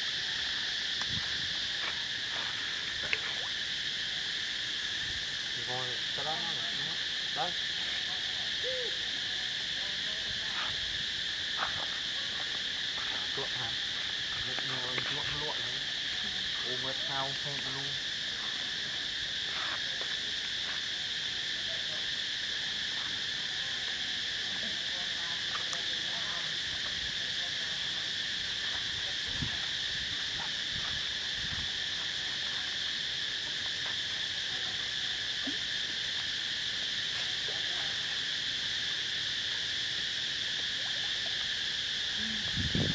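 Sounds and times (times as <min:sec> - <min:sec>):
shrill insect chorus: 0:00.0 - 0:42.9.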